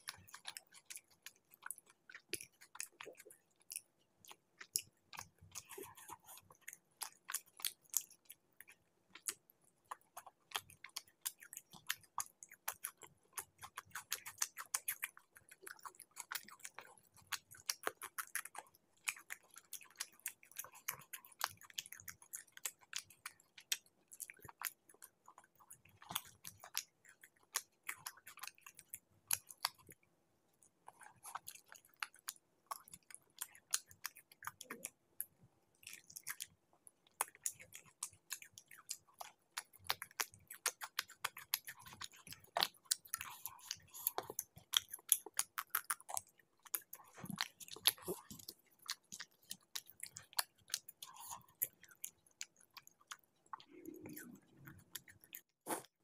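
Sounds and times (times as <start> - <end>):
chewing with wet mouth clicks: 0.0 - 56.0.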